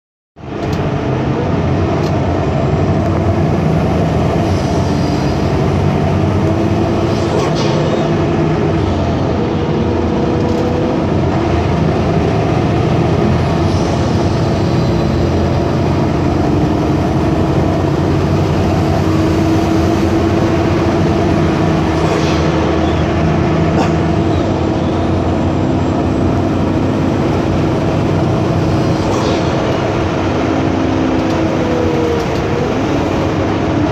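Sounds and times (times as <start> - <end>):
bus engine running: 0.4 - 33.9.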